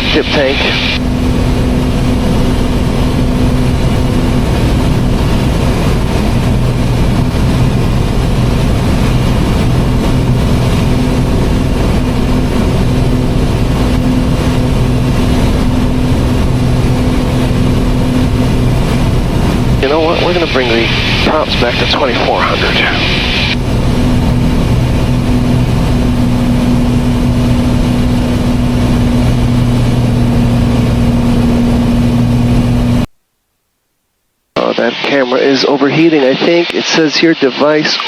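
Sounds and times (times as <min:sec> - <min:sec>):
propeller aircraft engines droning: 0:00.0 - 0:33.1, 0:34.6 - 0:38.0.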